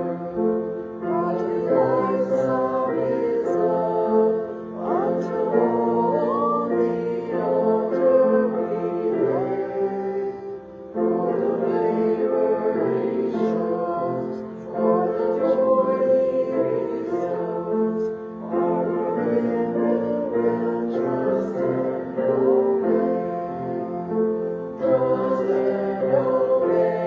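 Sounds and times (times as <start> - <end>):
congregation singing a hymn: 0.0 - 27.0
piano accompaniment: 0.0 - 27.0.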